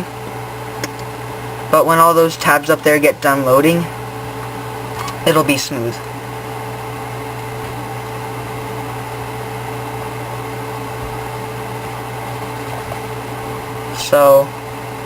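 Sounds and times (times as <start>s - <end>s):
fan humming and hissing: 0.0s - 15.0s.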